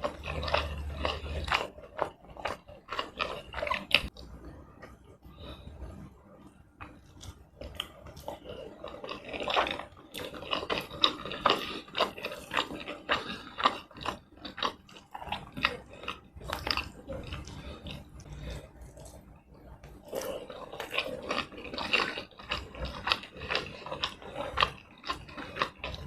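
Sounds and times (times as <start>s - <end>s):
wet chewing: 0.0s - 4.2s, 6.8s - 26.0s.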